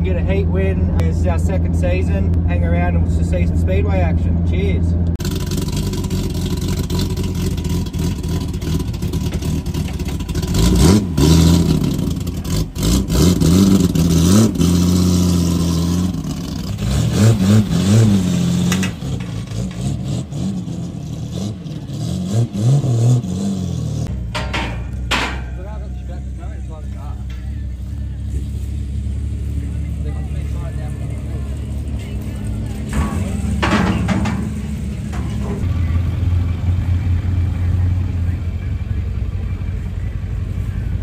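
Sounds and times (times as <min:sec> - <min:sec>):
car engine revving over idle: 0:04.3 - 0:41.0.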